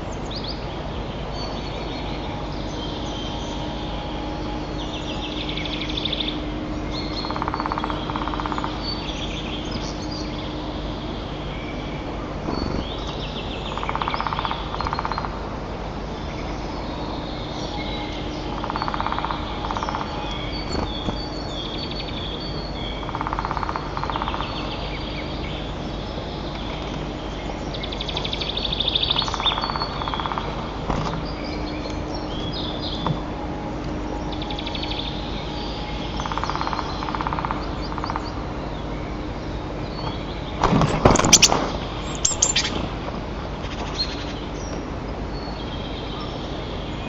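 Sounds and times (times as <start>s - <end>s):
birds chirping: 0.0s - 47.0s
rapid rattling bird trill: 0.0s - 47.0s
steady low hum: 0.0s - 47.0s.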